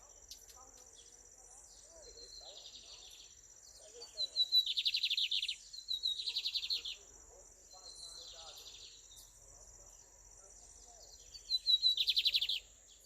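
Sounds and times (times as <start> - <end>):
bird song with buzzy trill: 0.0 - 9.4, 10.7 - 13.0.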